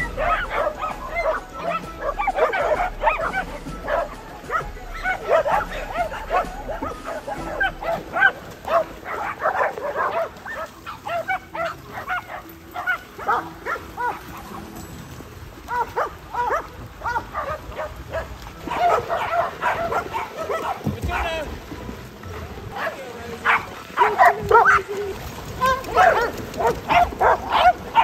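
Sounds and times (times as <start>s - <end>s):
dogs barking and yipping: 0.0s - 28.0s.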